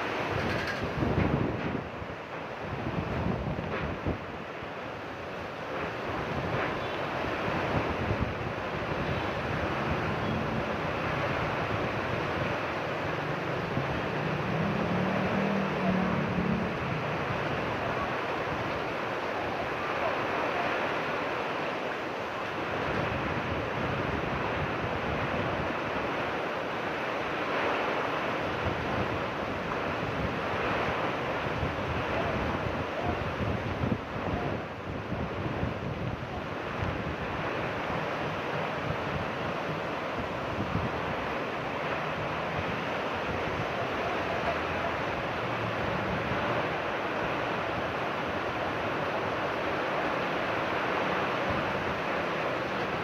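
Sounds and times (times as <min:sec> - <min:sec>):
heavy rain pouring: 0:00.0 - 0:53.0
strong wind: 0:00.0 - 0:53.0.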